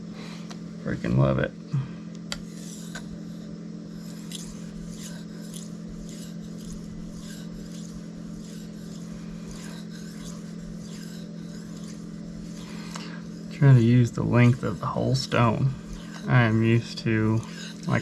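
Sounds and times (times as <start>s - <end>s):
low hum: 0.0s - 18.0s
knife scraping on whetstone: 2.4s - 18.0s.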